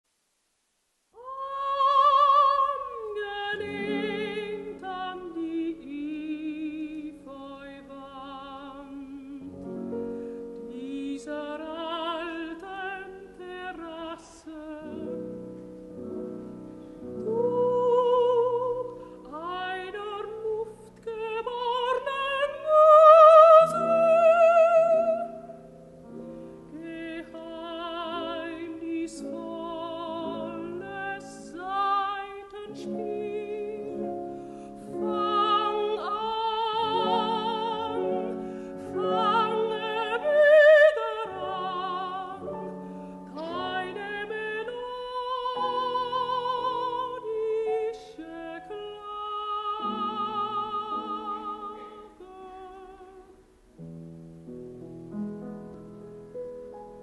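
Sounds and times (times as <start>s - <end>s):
soprano singing with vibrato: 1.2s - 53.6s.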